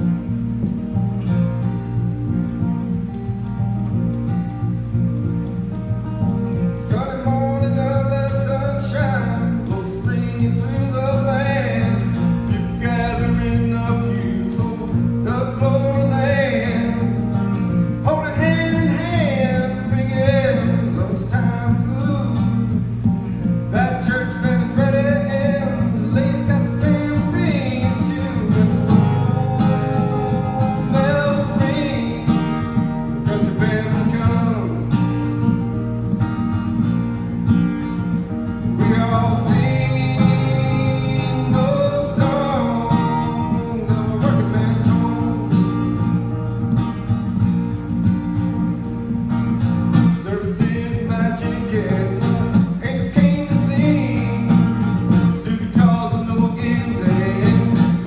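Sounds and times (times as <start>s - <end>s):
person singing country song: 0.0s - 4.1s, 4.7s - 58.0s
guitar chords: 0.0s - 58.0s.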